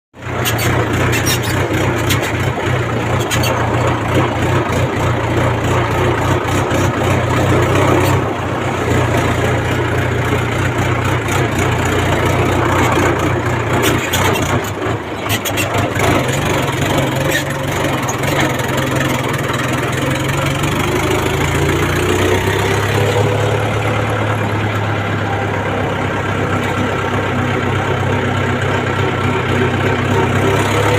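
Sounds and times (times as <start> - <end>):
tractor diesel engine running: 0.2 - 30.9.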